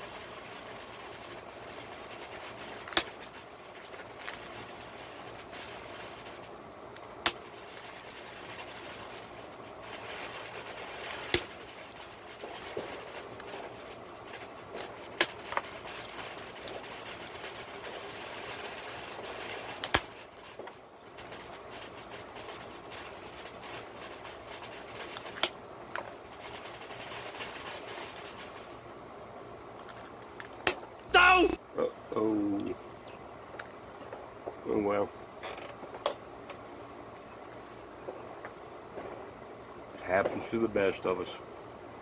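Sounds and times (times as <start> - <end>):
steady low hiss: 0.0 - 42.0.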